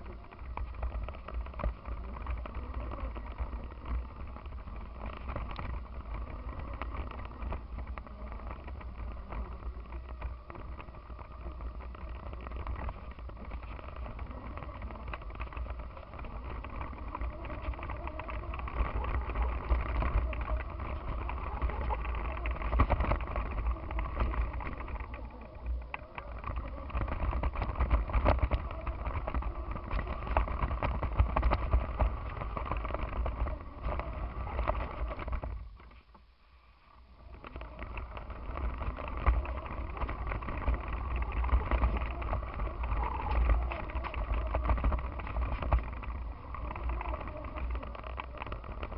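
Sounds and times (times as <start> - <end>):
go-kart driving over grass: 0.0 - 48.9.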